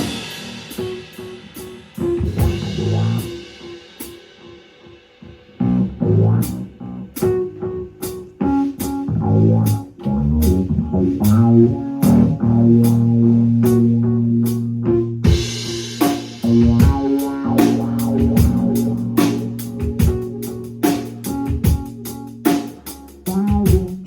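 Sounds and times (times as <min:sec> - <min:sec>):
plucked electric bass: 0:02.1 - 0:03.4, 0:05.6 - 0:24.0.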